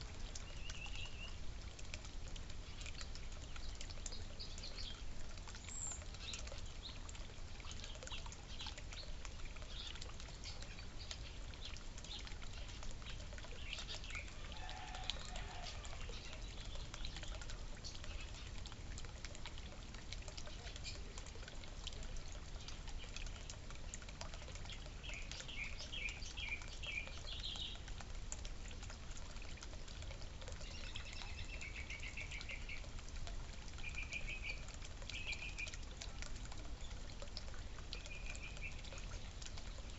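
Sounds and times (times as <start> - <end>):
water fountain trickling: 0.0 - 39.9
small birds chirping: 0.2 - 1.5, 2.5 - 39.9.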